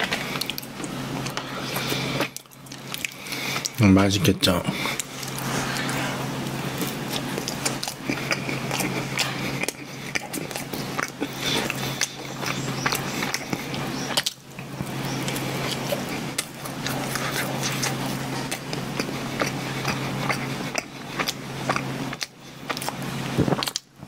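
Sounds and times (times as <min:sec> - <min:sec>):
biting and chewing: 0:00.0 - 0:03.8, 0:04.7 - 0:24.0
low hum: 0:00.0 - 0:22.1.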